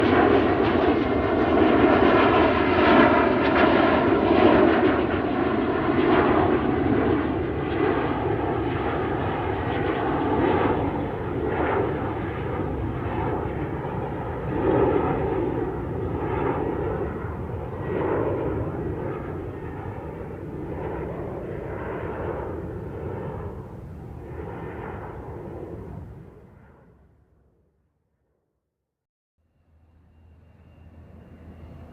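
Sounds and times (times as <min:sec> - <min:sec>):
military aircraft engine rumble: 0:00.0 - 0:27.3, 0:29.4 - 0:31.9.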